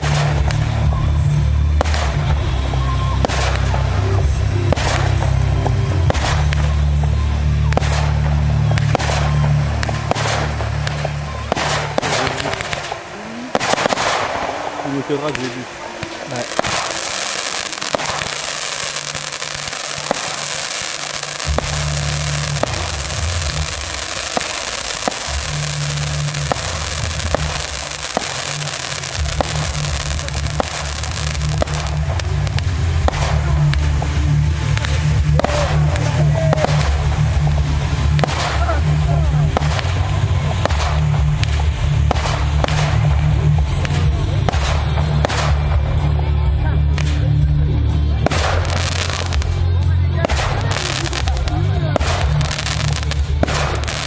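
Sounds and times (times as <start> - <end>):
low rumble: 0.0 - 15.0, 16.3 - 54.0
bass-heavy music: 0.0 - 54.0
fireworks bursting with bangs: 0.0 - 54.0.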